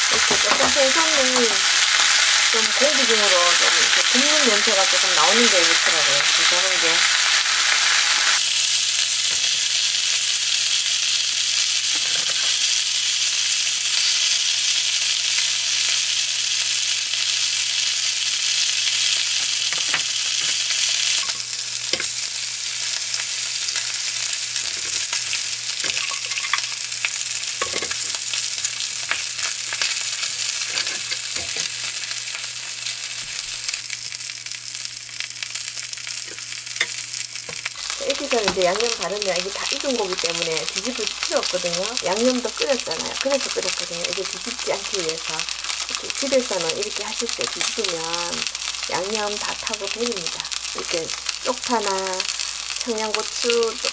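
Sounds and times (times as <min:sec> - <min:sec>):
fish sizzling in oil: 0:00.0 - 0:53.9.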